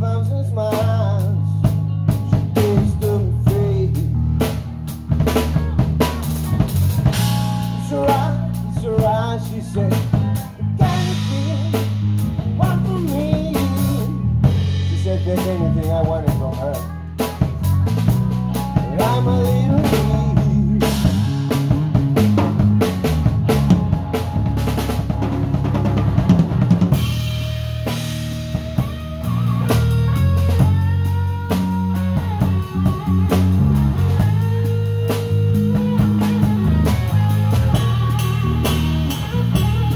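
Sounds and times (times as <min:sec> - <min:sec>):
bass: 0:00.0 - 0:39.9
drum kit: 0:00.0 - 0:39.9
lead electric guitar: 0:00.0 - 0:39.9.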